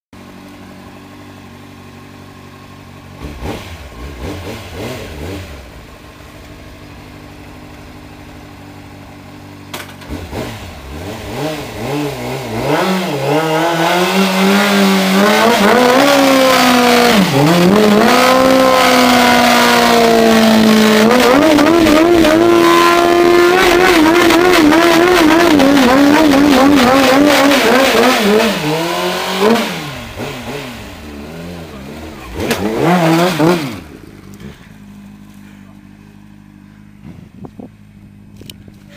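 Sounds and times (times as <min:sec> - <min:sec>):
motorcycle engine revving: 0:00.2 - 0:38.9.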